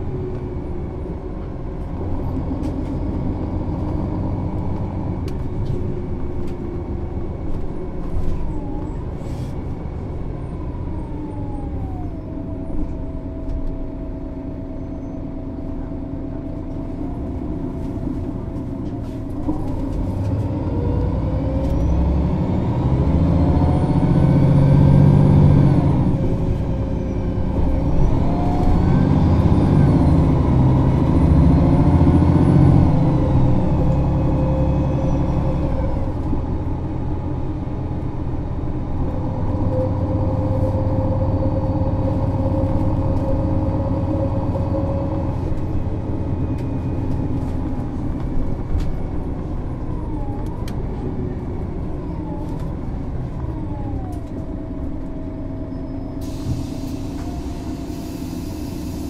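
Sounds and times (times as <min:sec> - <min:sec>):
bus diesel engine whining: 0:00.0 - 0:59.0.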